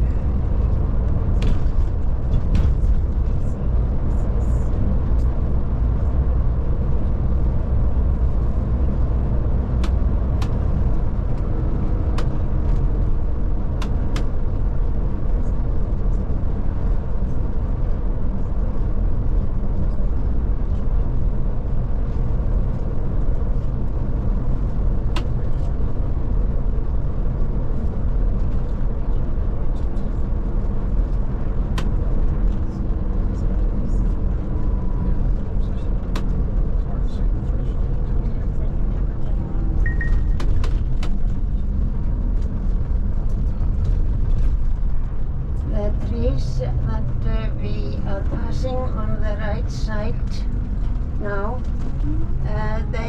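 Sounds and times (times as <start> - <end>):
coach engine drone: 0.0 - 53.0
road noise: 0.0 - 53.0.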